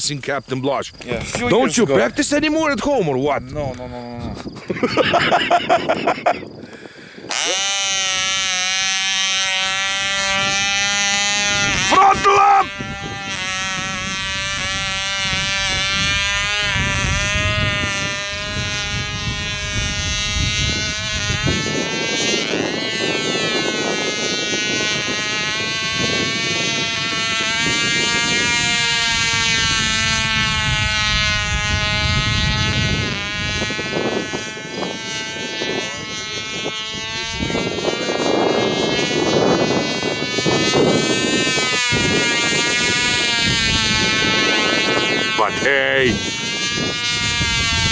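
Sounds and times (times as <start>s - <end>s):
wind buffeting microphone: 0.0s - 47.9s
model plane engine buzzing whine: 0.8s - 47.9s.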